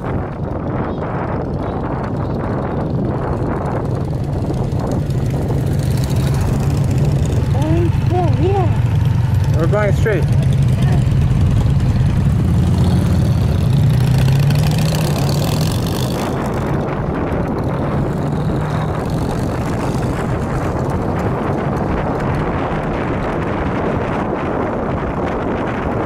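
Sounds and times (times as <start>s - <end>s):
wind rushing over microphone: 0.0s - 26.0s
motorcycle engine pulling away: 2.1s - 25.6s.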